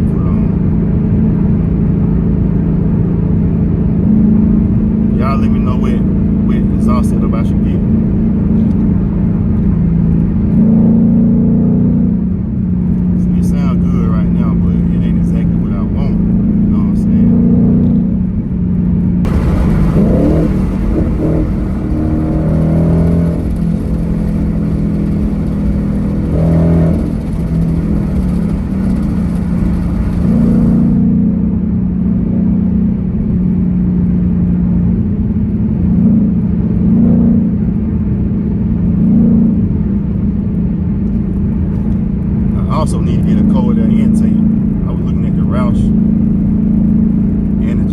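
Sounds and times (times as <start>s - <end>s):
deep car exhaust note: 0.0s - 47.9s.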